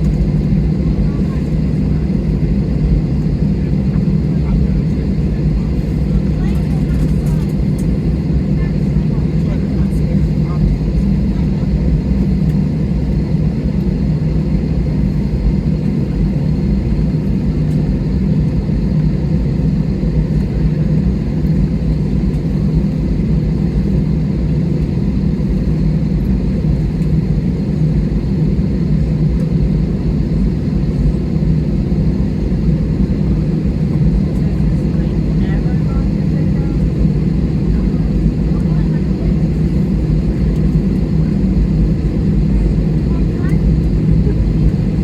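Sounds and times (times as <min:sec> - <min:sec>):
airliner cabin engine rumble: 0:00.0 - 0:45.0
faint steady whines: 0:00.0 - 0:45.0.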